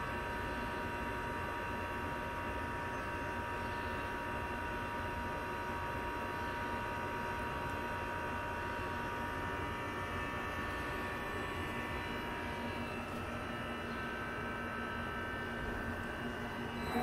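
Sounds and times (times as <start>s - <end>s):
lathe humming and whining: 0.0s - 17.0s.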